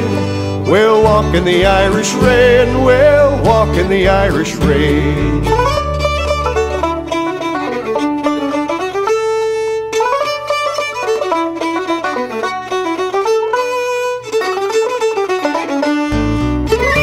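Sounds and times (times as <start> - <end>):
fiddle playing folk melody: 0.0 - 17.0
folk band with bass: 0.0 - 17.0.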